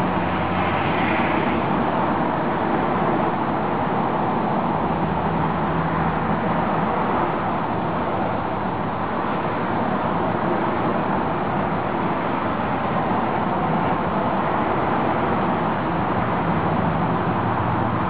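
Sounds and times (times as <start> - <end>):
rushing outdoor noise: 0.0 - 18.0.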